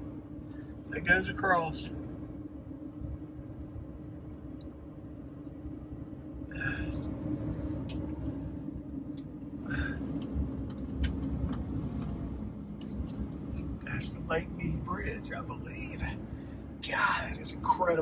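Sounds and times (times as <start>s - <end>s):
constant hum: 0.0s - 18.0s
road and engine rumble: 0.0s - 18.0s.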